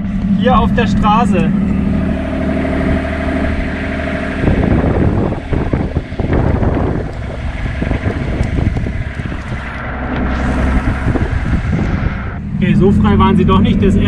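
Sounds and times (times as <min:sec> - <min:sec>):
camper van engine running: 0:00.0 - 0:14.0
wind rumble on microphone: 0:01.7 - 0:14.0.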